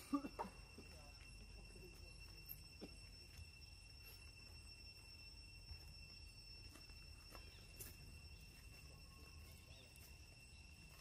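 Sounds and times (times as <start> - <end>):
high-pitched whine: 0.0 - 11.0.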